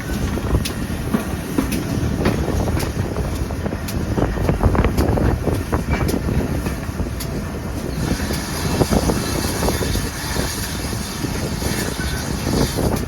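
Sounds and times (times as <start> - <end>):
train rumbling on track: 0.0 - 13.0
wheels knocking on track: 0.0 - 13.0.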